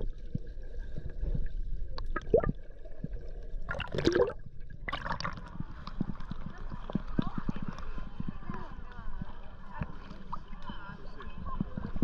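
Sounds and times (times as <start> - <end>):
muffled underwater water rumble: 0.0 - 12.0
underwater gurgles and knocks: 0.0 - 12.0.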